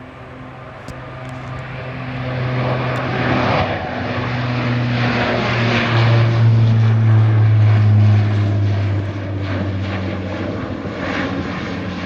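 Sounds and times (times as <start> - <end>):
turboprop airliner climbing: 0.0 - 12.0.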